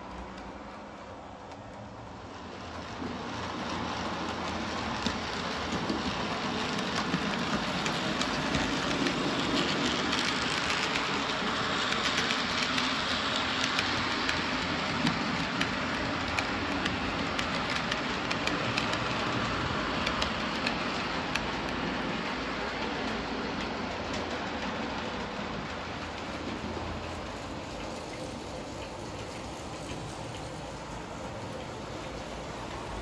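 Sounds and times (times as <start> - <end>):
model train wheels rumbling: 0.0 - 33.0
clicks over rail joints: 2.7 - 30.7.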